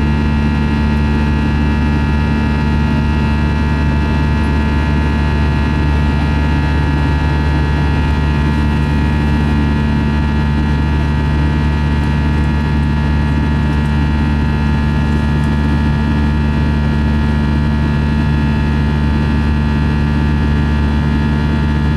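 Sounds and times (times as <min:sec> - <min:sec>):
jet engine drone in cabin: 0:00.0 - 0:21.9.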